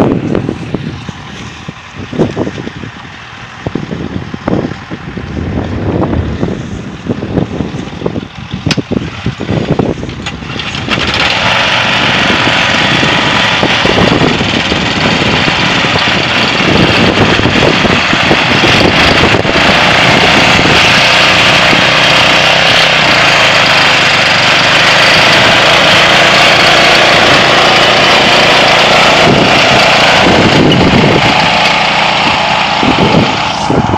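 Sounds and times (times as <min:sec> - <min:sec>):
small tractor engine running: 0:00.0 - 0:33.9.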